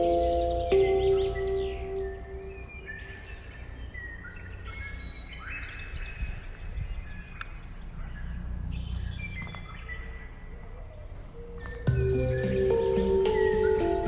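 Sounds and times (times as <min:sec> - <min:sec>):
bird trill: 0:00.0 - 0:14.0
birds chirping and whistling: 0:00.0 - 0:14.0.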